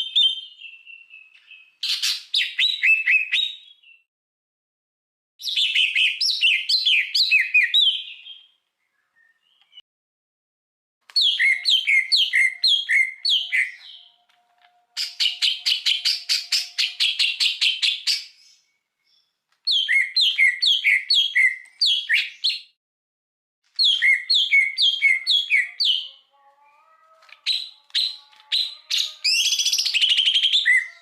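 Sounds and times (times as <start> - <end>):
songbird singing: 0.0 - 4.1, 5.4 - 9.8, 11.1 - 22.8, 23.8 - 31.0.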